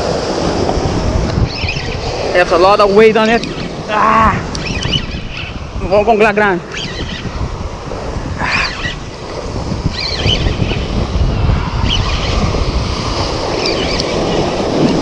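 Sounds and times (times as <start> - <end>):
waves breaking on rocky shore: 0.0 - 15.0
wind buffeting microphone: 0.0 - 15.0.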